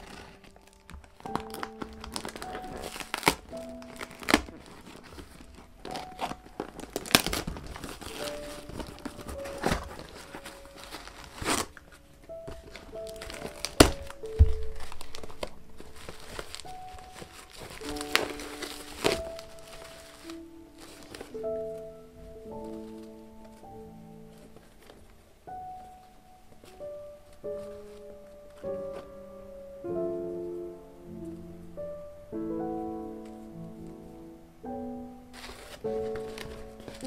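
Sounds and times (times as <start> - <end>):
plastic packaging crinkling: 0.0 - 29.3, 35.2 - 37.0
soft background music: 0.0 - 37.0.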